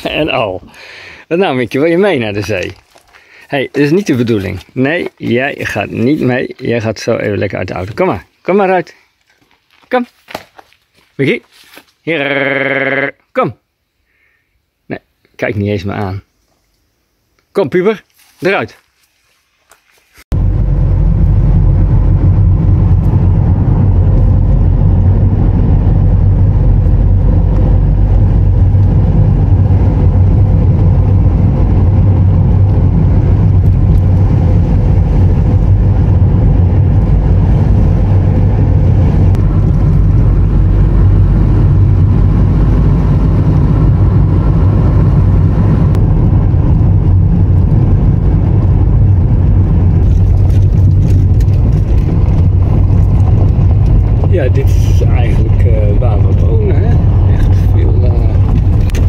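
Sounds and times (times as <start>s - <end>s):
vehicle engine and road noise: 0.0s - 8.3s, 19.7s - 59.0s.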